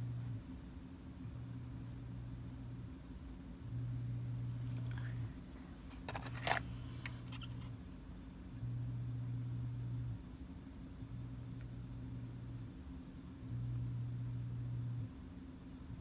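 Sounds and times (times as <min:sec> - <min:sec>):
low hum: 0:01.2 - 0:16.0.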